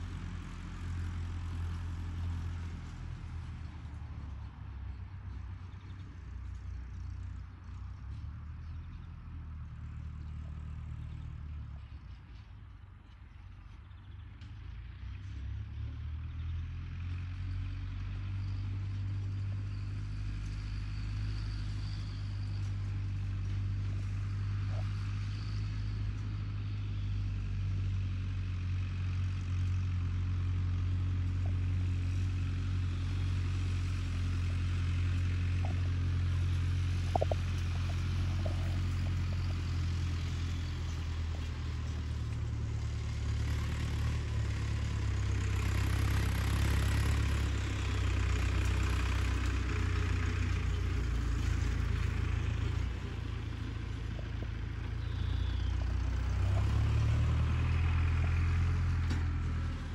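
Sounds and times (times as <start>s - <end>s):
tractor engine humming: 0.0s - 59.9s.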